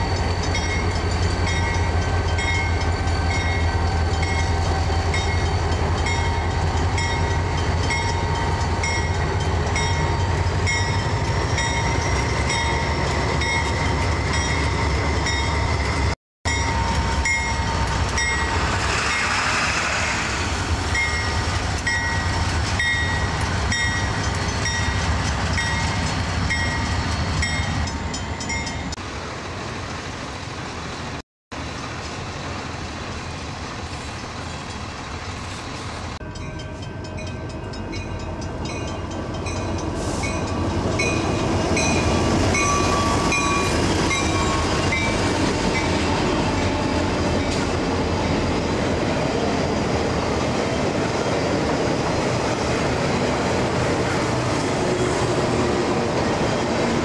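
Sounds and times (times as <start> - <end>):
train wheels squealing: 0.0 - 29.0, 33.9 - 53.1
freight train rumbling: 0.0 - 57.0.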